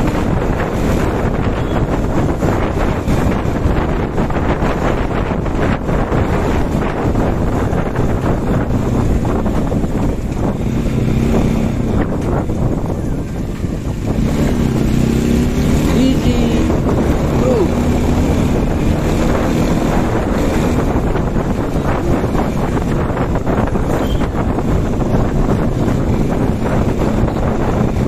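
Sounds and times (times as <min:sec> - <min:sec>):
motorcycle engine drone: 0:00.0 - 0:28.0
wind buffeting microphone: 0:00.0 - 0:28.0.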